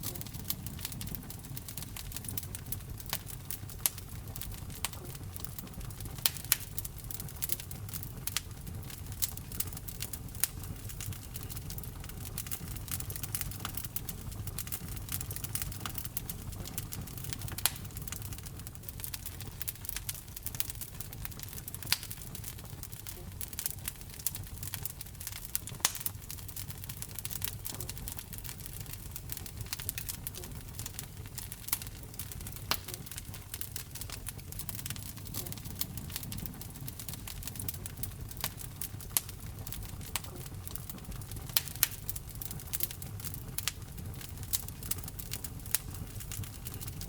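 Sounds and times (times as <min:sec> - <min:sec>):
fire crackling and popping: 0:00.0 - 0:47.0
flames rumbling: 0:00.0 - 0:47.0.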